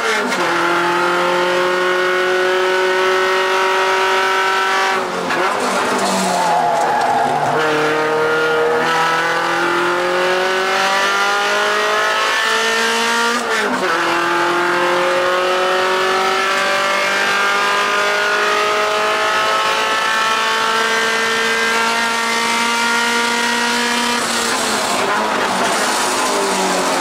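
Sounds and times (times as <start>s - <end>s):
race car engine at full throttle: 0.0s - 27.0s.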